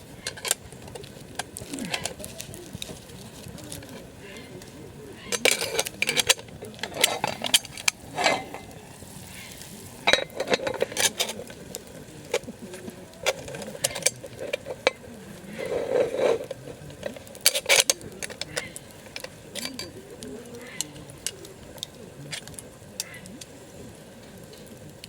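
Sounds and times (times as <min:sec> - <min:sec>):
utensil scraping a skillet: 0:00.0 - 0:25.0.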